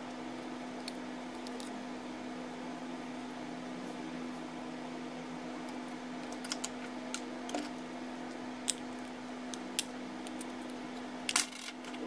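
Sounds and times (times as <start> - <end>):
steady low background hum: 0.0 - 12.0.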